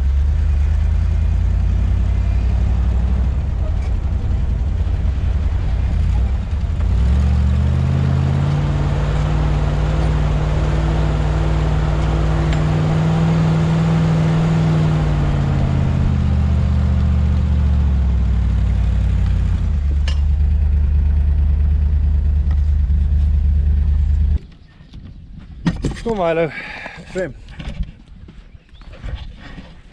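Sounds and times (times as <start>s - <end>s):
jeep engine running: 0.0s - 24.4s.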